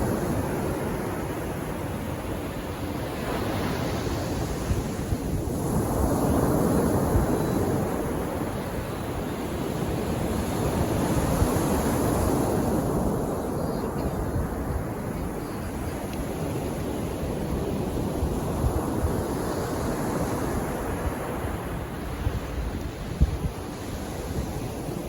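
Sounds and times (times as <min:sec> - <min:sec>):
sea waves washing onto beach: 0:00.0 - 0:25.0.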